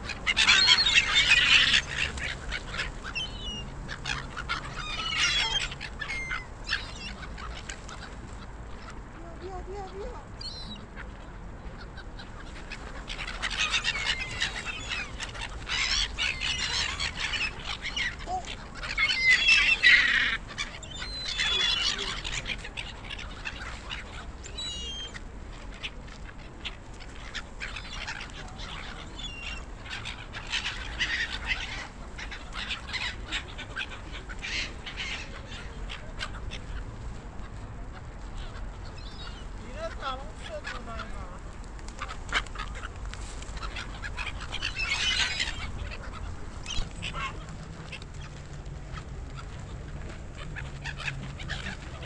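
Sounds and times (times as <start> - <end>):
gulls calling: 0.0 - 52.0.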